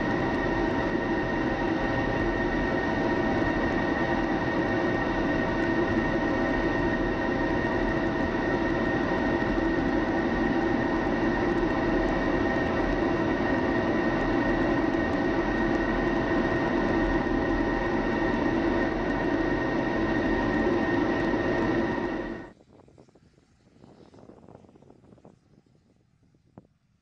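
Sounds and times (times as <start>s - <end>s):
jet engine rumble and whine: 0.0s - 27.0s.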